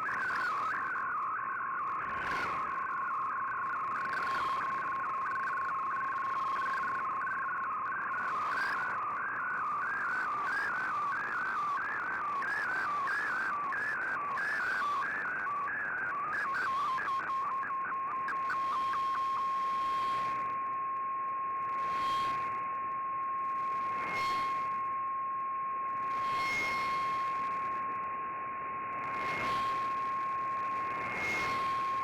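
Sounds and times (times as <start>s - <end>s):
warbling data signal tones: 0.0s - 28.1s, 28.8s - 32.0s
steady radio tone: 0.0s - 32.0s.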